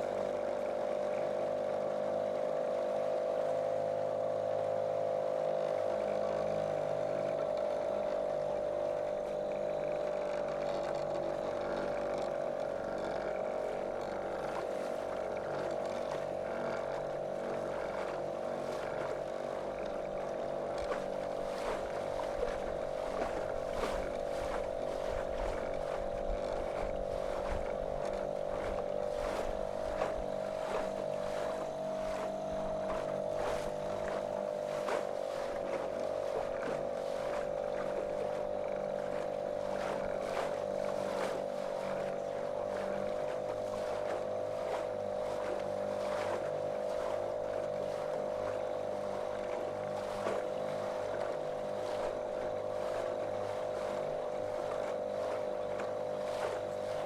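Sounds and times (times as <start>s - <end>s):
motorboat motor running: 0.0s - 57.0s
water splashing against hull: 0.0s - 57.0s.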